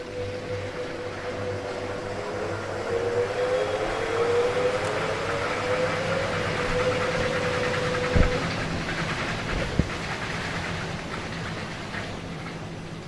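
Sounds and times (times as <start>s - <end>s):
washing machine drum rumbling: 0.0s - 13.0s
washing machine motor whine: 0.0s - 13.0s.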